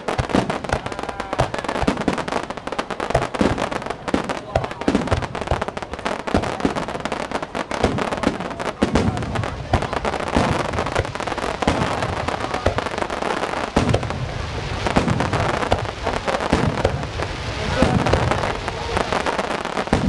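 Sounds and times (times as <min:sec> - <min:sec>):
fireworks cracks and pops: 0:00.0 - 0:20.0
fireworks deep booms: 0:00.0 - 0:20.0.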